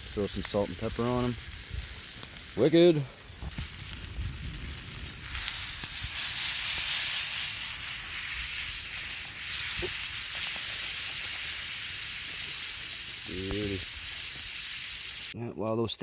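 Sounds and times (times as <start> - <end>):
food sizzling in a frying pan: 0.0 - 15.4.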